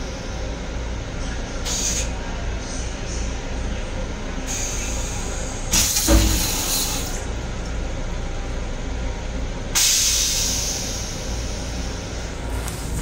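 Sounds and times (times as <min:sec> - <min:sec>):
railcar low rumble: 0:00.0 - 0:13.0.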